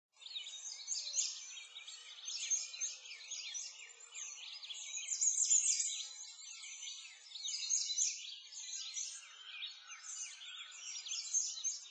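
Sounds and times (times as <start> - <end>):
songbirds chirping and singing: 0.2 - 11.9.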